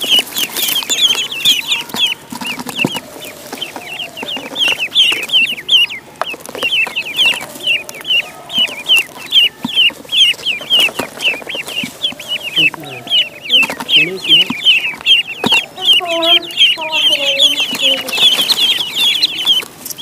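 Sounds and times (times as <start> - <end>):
ducklings peeping: 0.0 - 20.0.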